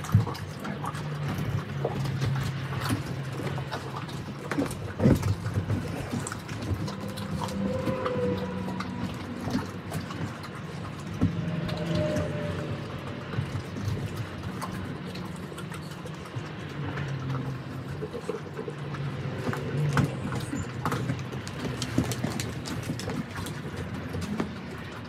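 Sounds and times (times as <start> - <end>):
dogs crunching bones: 0.0 - 25.0.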